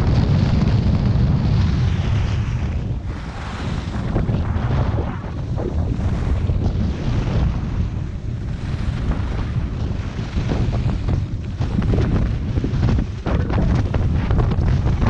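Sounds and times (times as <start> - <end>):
wind buffeting microphone: 0.0 - 15.0
skis carving on snow: 0.1 - 15.0.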